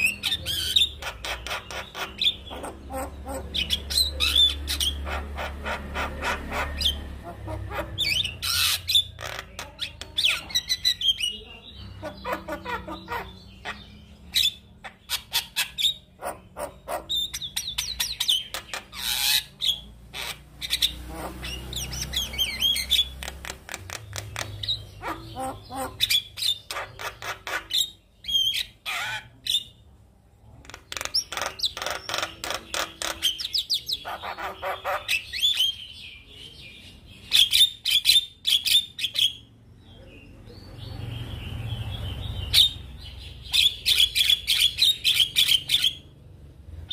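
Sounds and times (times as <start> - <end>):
myna bird singing: 0.0 - 46.9.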